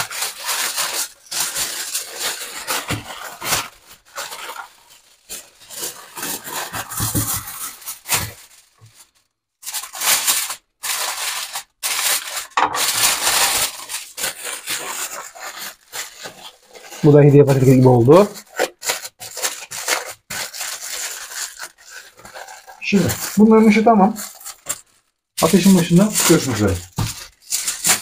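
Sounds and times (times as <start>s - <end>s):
aluminium foil crinkling: 0.0s - 28.0s.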